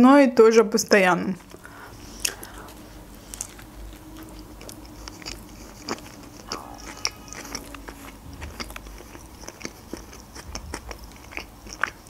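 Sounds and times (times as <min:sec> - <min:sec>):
faint steady hum: 0:00.0 - 0:12.0
chewing with wet mouth clicks: 0:01.4 - 0:12.0
crisp food crunches: 0:02.2 - 0:12.0.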